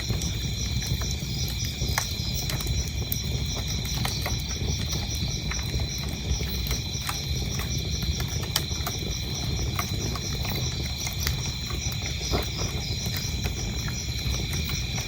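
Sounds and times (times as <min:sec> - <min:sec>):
crickets chirping: 0:00.0 - 0:15.0
wood fire crackling: 0:00.0 - 0:15.0.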